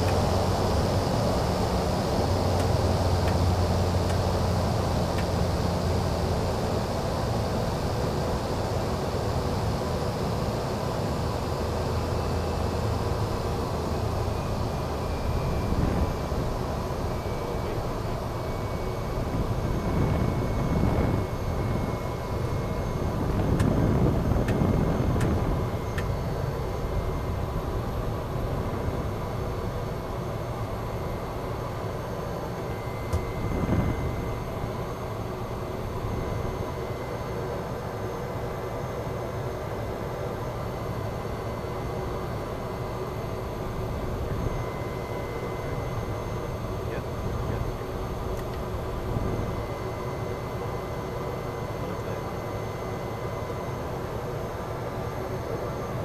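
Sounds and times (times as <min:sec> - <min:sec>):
turboprop engine droning: 0:00.0 - 0:56.0.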